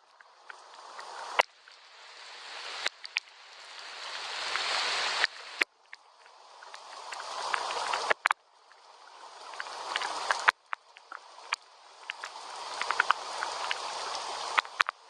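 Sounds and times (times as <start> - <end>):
gentle rain hiss: 0.0 - 15.0
raindrops ticking: 0.0 - 15.0.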